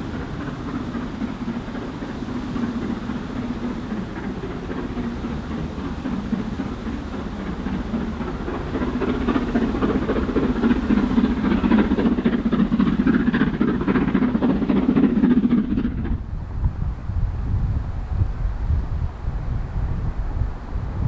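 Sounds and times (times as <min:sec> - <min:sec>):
steam locomotive exhaust beats: 0:00.0 - 0:21.0
wind on microphone: 0:00.0 - 0:21.0.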